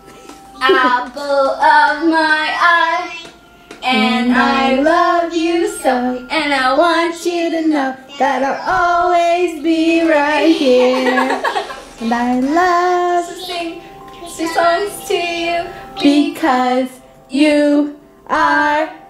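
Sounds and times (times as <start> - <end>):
woman singing unaccompanied: 0.6 - 3.2, 3.8 - 19.0.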